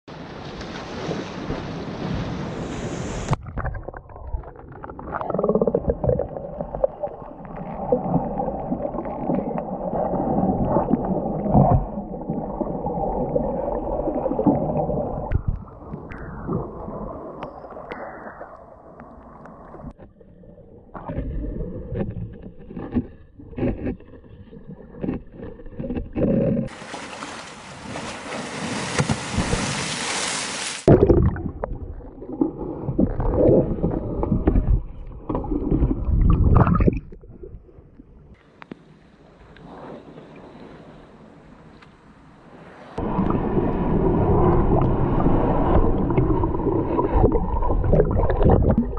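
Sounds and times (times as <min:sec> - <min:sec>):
underwater sloshing and gurgling: 0:00.2 - 0:27.9, 0:30.8 - 0:38.4, 0:39.2 - 0:48.9.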